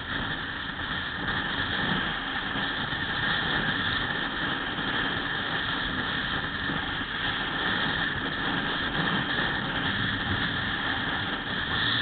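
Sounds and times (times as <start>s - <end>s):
vehicle road and wind noise: 0.0s - 12.0s.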